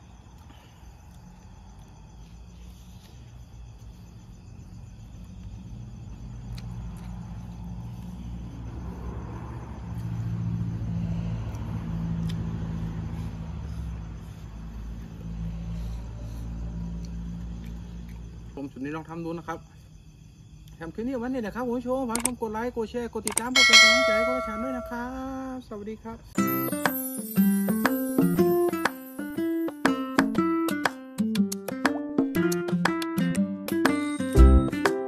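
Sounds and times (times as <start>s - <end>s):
crickets chirping faintly: 0.0s - 35.0s.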